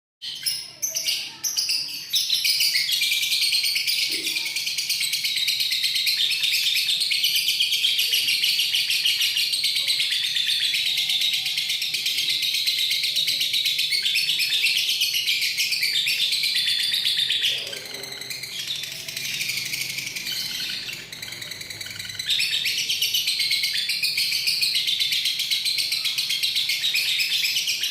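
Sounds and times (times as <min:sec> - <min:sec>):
lovebird chirps: 0:00.3 - 0:27.9
lovebird rapid high-pitched chattering: 0:00.3 - 0:27.9.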